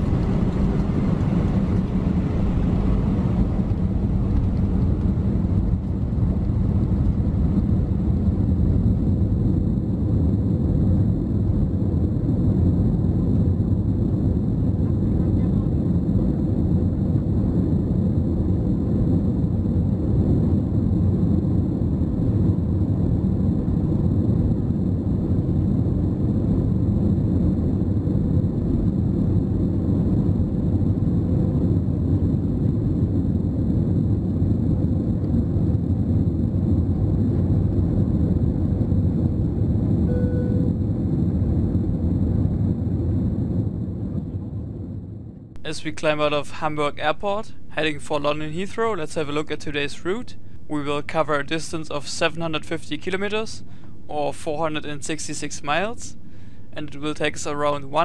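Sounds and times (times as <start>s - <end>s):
jet engines deep rumble: 0.0s - 58.0s.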